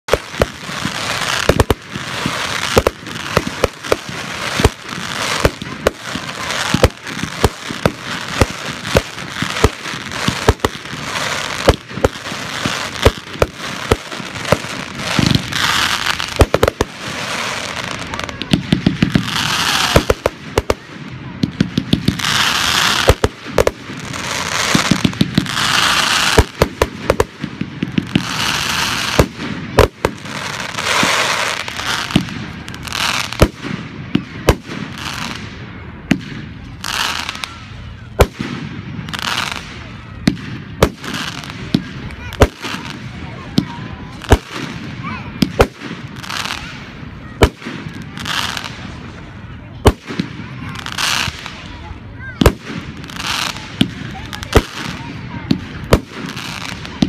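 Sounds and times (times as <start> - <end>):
hissing crackle of fireworks: 0.0 - 57.0.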